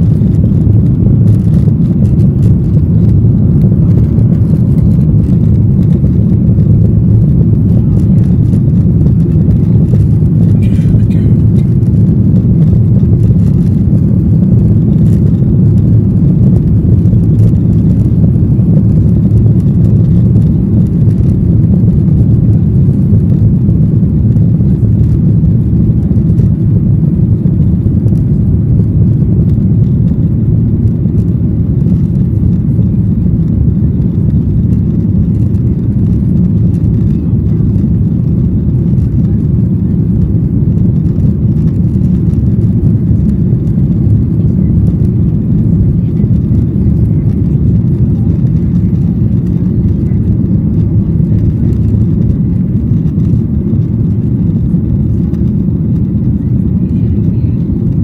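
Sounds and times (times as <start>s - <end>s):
airflow over fuselage: 0.0s - 58.0s
jet engines in flight: 0.0s - 58.0s.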